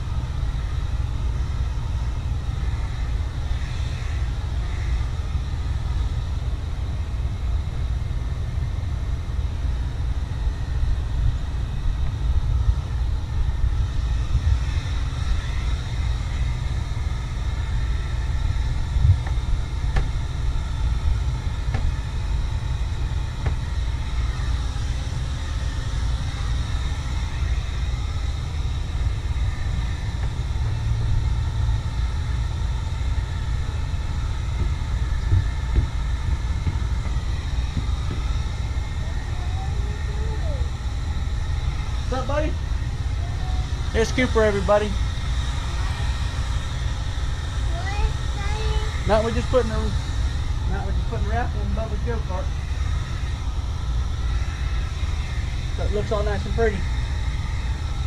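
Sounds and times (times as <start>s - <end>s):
faint whining tones: 0.0s - 58.0s
low wind rumble on microphone: 0.0s - 58.0s.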